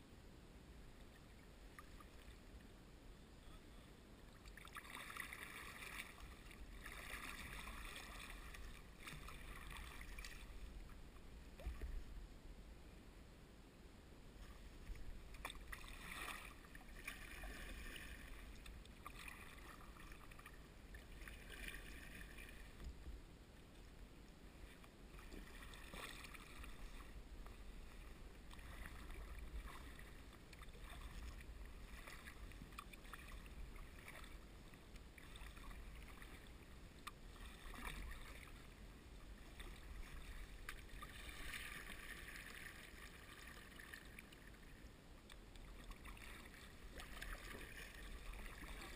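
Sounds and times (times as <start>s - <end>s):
low steady rumble: 0.0s - 48.9s
kayak paddle splashing: 4.3s - 12.1s, 14.4s - 23.0s, 24.6s - 48.9s.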